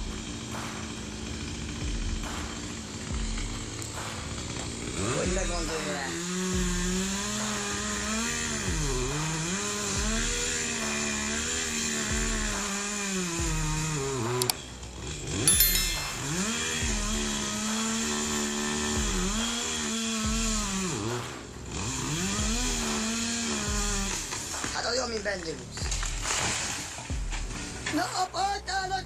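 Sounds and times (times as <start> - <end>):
chainsaw running at high revs: 0.0 - 28.3.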